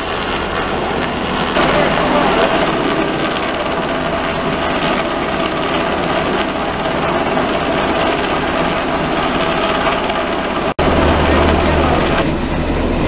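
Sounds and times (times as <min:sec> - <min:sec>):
helicopter flying low overhead: 0:00.0 - 0:13.0.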